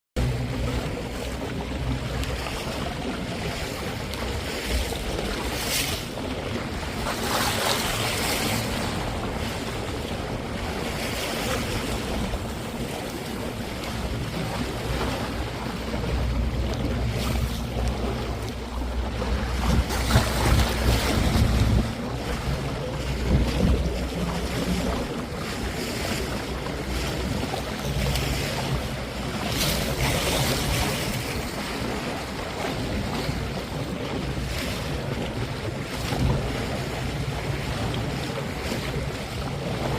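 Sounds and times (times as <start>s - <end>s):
low engine hum: 0.2s - 39.9s
sea water splashing past a boat: 0.2s - 39.9s
wind gusting on microphone: 0.2s - 39.9s.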